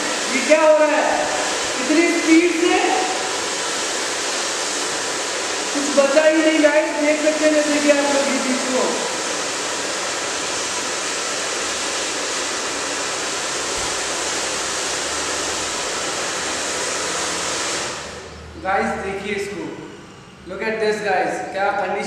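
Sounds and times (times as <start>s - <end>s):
hair dryer winding down: 0.0s - 20.1s
hair dryer blowing: 0.0s - 20.6s.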